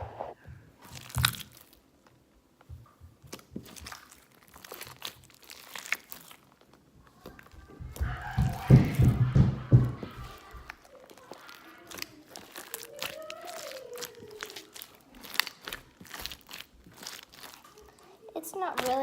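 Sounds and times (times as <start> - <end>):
sticky slime squishing by hand: 0.0 - 19.0.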